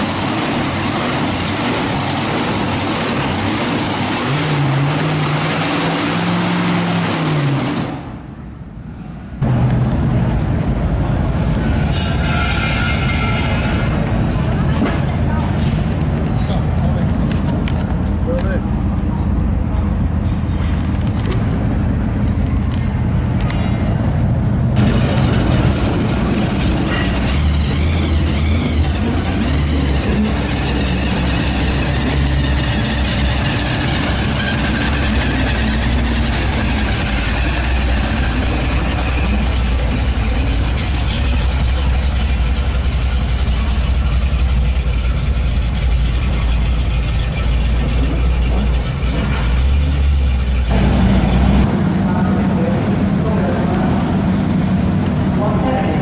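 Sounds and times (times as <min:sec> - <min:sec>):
car engine idling and pulling away: 0:00.0 - 0:11.9, 0:13.6 - 0:56.0.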